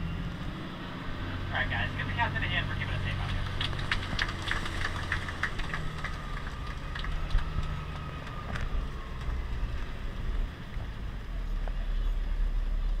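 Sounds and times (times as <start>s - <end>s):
vehicle engine low rumble: 0.0s - 13.0s.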